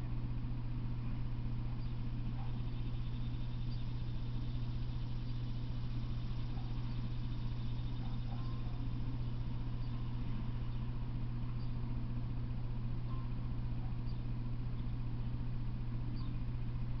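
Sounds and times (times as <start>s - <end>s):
constant hiss: 0.0s - 17.0s
low hum: 0.0s - 17.0s.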